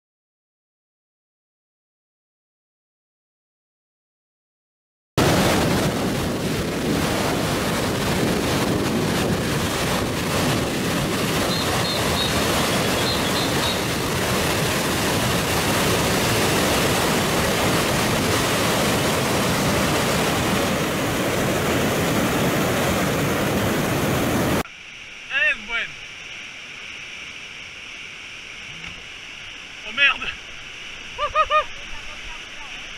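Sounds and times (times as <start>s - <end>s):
waterfall roaring: 5.2s - 32.9s.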